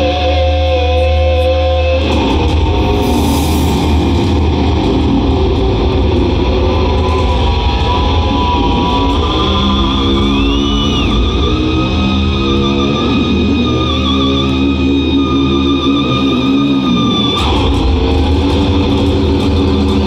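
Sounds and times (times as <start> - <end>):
heavy metal band playing live: 0.0 - 20.0.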